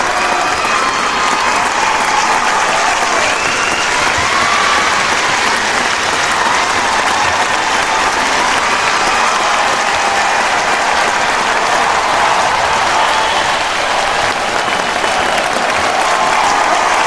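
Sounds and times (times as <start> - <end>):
crowd cheering and calling: 0.0 - 17.0
crowd clapping: 0.0 - 17.0.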